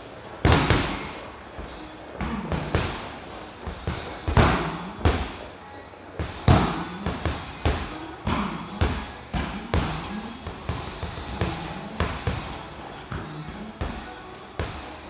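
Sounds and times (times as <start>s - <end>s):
punches thudding on heavy bag: 0.4s - 5.4s, 6.2s - 15.0s.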